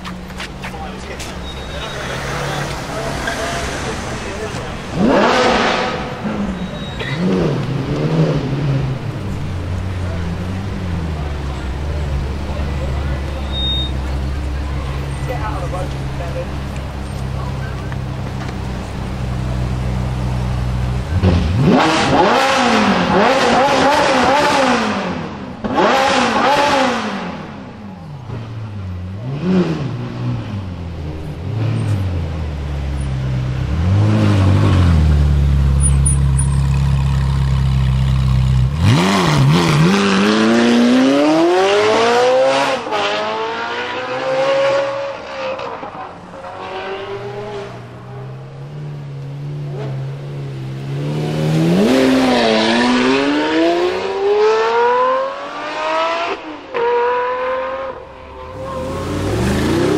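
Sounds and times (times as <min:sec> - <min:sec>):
engines accelerating with upshifts: 0:00.0 - 0:59.9
car engine revving: 0:00.2 - 0:59.9.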